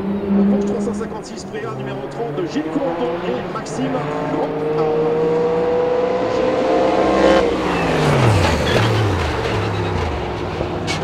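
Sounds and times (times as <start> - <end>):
race engine accelerating: 0.0 - 11.0.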